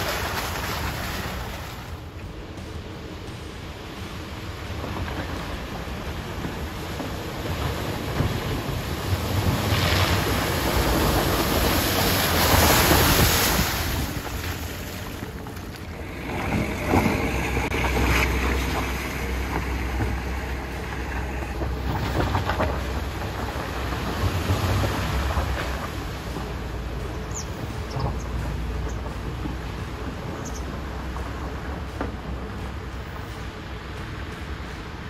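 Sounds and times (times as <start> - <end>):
low engine hum: 0.0 - 35.0
water splashing and rushing: 0.0 - 35.0.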